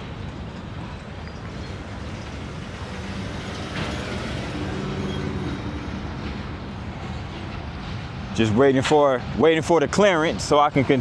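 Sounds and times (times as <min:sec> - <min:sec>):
freight train rumbling: 0:00.0 - 0:11.0.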